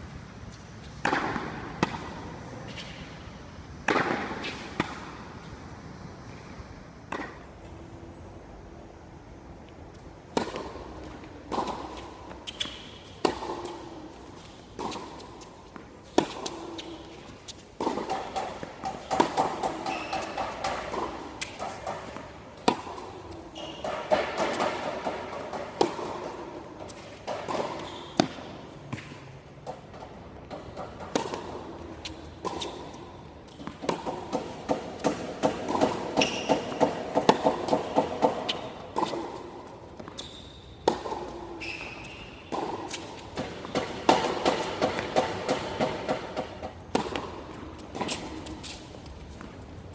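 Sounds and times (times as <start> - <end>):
tennis ball bouncing on court: 0.9 - 3.2, 3.8 - 5.2, 7.1 - 7.5, 9.9 - 49.8
tennis ball struck by racket: 1.0 - 3.1, 3.8 - 5.2, 7.1 - 7.5, 10.3 - 40.2, 40.8 - 49.6.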